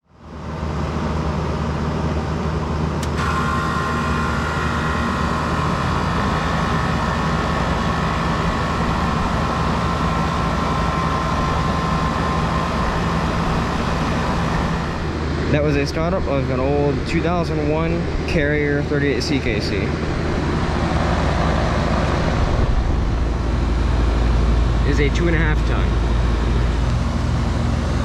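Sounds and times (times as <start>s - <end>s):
high-pitched whine: 0.0s - 28.0s
air conditioner humming: 0.2s - 28.0s.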